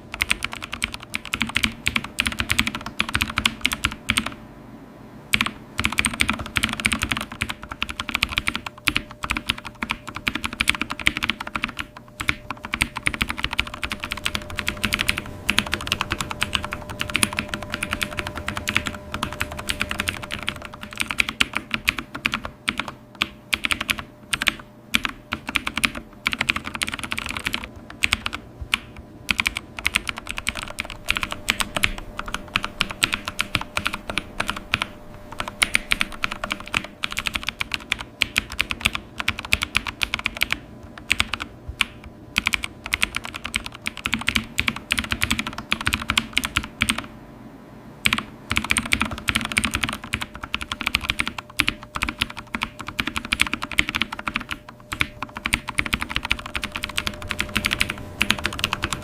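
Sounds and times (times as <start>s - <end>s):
keyboard typing clicks: 0.0s - 4.4s, 5.3s - 47.1s, 48.0s - 59.0s
faint steady hum: 0.0s - 59.0s.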